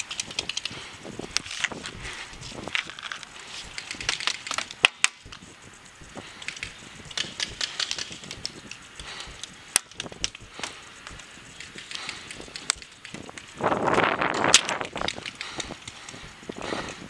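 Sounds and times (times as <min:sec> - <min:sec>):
sharp cracks: 0:00.0 - 0:05.4, 0:06.1 - 0:17.0
paintball marker handling noise: 0:00.0 - 0:05.5, 0:06.1 - 0:13.6, 0:14.3 - 0:17.0.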